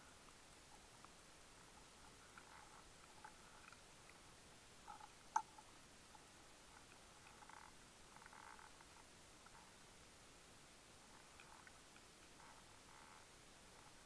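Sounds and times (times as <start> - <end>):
soft hissing: 0.0 - 14.0
faint underwater clicks: 0.1 - 9.9, 11.0 - 14.0.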